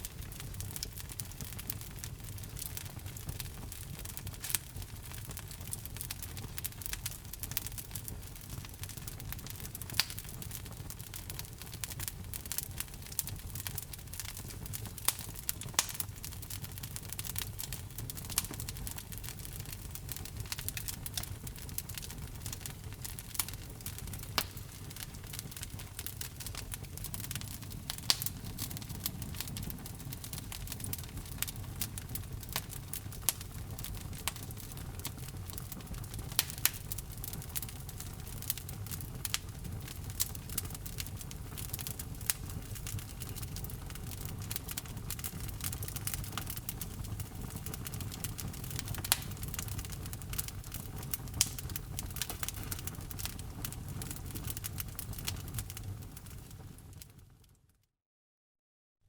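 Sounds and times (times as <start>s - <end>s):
wood fire pops and snaps: 0.0s - 57.2s
low rumble of flames: 0.0s - 57.4s.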